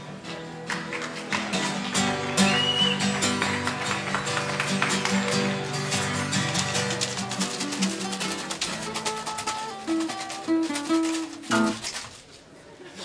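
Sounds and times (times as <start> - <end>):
plucked guitar notes: 0.0 - 11.8.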